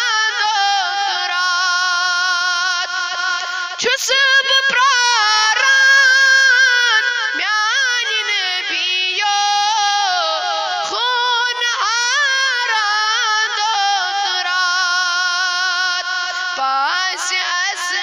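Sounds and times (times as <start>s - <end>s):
high voice singing devotional song: 0.0s - 18.0s.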